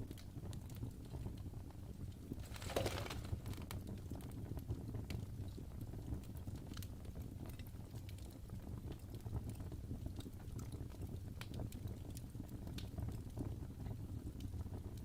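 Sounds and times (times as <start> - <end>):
logs crackling and popping: 0.0 - 15.0
low rumble of flame: 0.0 - 15.0.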